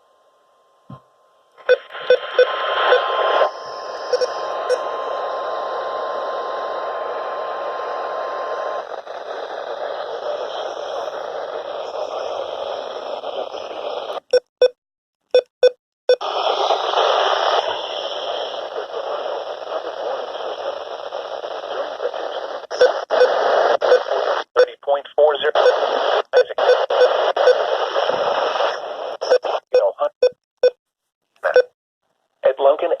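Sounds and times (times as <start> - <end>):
radio static hiss: 1.7 - 14.2, 16.1 - 30.2.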